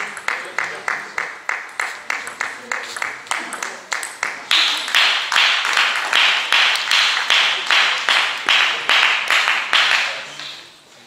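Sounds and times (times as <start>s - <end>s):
hands clapping with echo: 0.0s - 10.7s.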